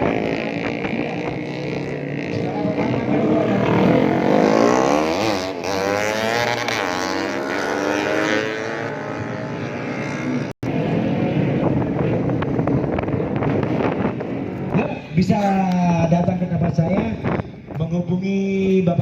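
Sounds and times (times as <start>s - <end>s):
racing motorcycles passing: 0.0s - 17.7s.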